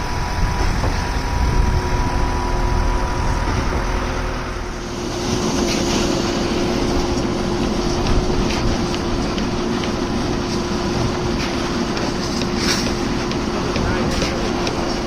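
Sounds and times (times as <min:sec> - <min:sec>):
construction machinery engine rumble: 0:00.0 - 0:15.0
loud rush of noise: 0:00.0 - 0:15.0.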